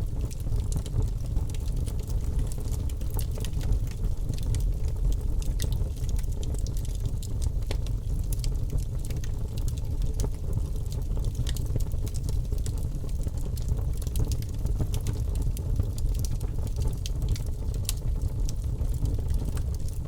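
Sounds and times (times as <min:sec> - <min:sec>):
fire crackles and pops: 0:00.0 - 0:20.0
low rumble of flame: 0:00.0 - 0:20.0.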